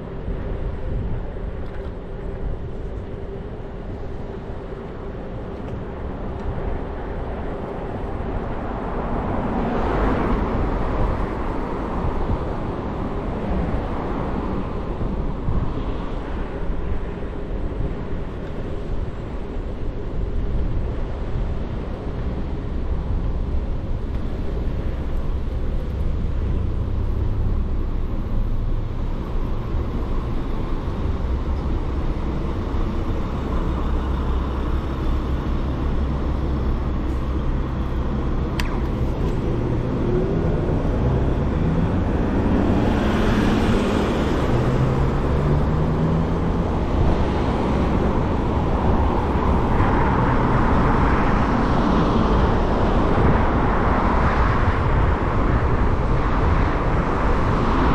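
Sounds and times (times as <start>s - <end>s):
cars going by: 0.0s - 57.9s
low traffic rumble: 0.0s - 57.9s.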